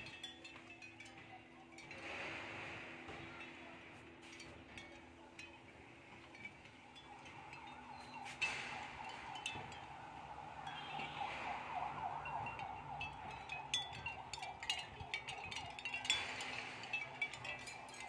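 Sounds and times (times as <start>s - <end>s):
seashell wind chime clinking: 0.0s - 11.4s, 12.3s - 18.0s.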